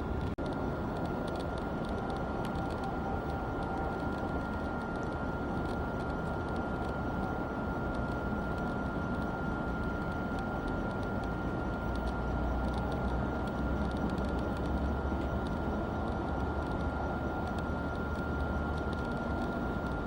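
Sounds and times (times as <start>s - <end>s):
thin high whine: 0.0s - 20.0s.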